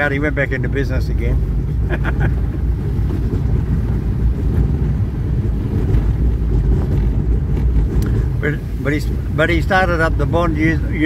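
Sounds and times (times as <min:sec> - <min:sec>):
vehicle road and engine noise: 0:00.0 - 0:11.0
wind buffeting microphone: 0:00.0 - 0:11.0.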